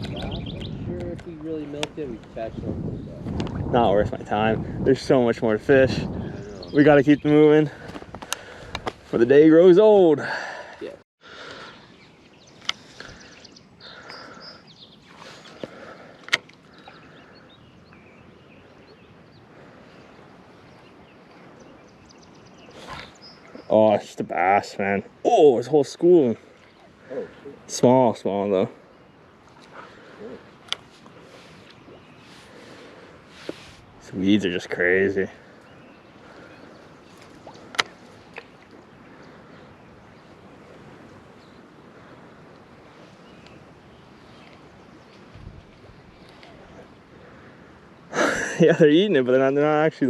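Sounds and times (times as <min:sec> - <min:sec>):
water noise: 0:00.0 - 0:50.0
wind: 0:00.0 - 0:50.0.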